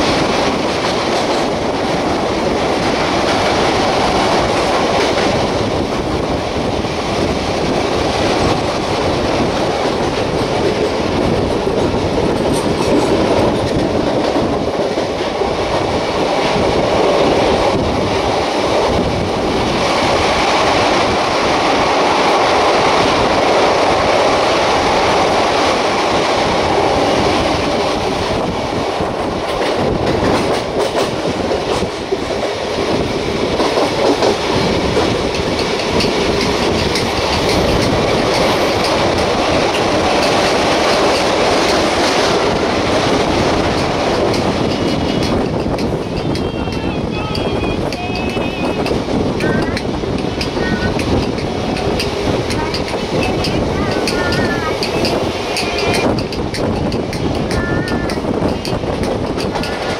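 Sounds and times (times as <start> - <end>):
clickety-clack over rail joints: 0.0 - 59.9
train wheels rumbling on rails: 0.0 - 59.9.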